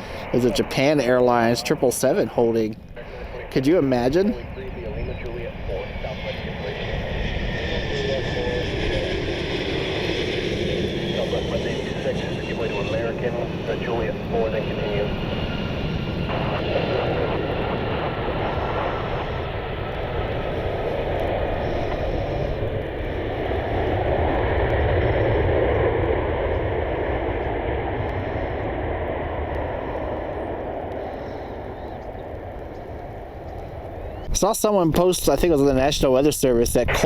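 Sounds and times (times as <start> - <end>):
jet airliner engines passing: 0.0 - 37.0.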